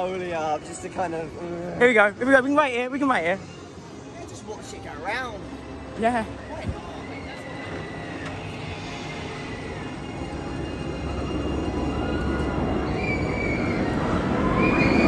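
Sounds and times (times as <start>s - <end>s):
roller coaster rumbling on track: 0.0s - 15.0s.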